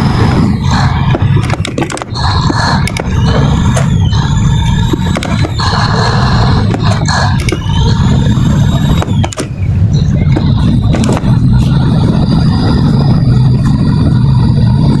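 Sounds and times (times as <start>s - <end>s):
boat diesel engine rumbling: 0.0s - 15.0s.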